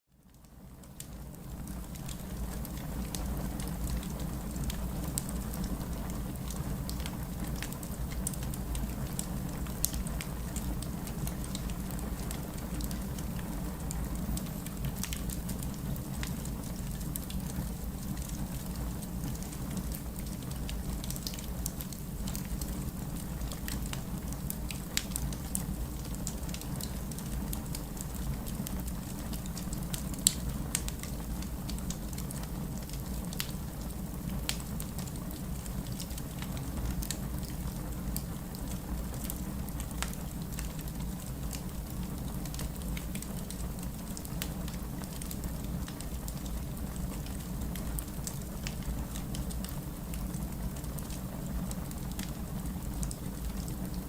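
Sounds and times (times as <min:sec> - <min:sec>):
wood fire crackling: 0:00.2 - 0:54.0
heavy rain: 0:01.2 - 0:54.0.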